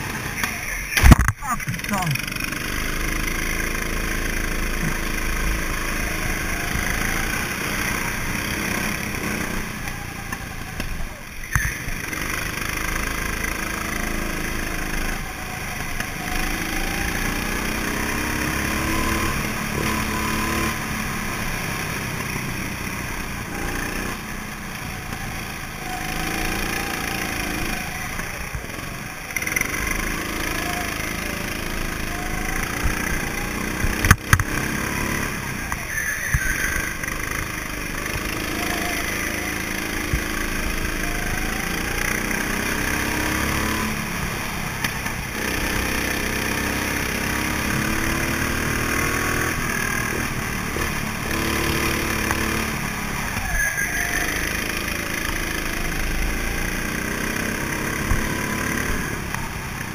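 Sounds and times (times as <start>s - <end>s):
go-kart engines racing: 0.0s - 59.9s.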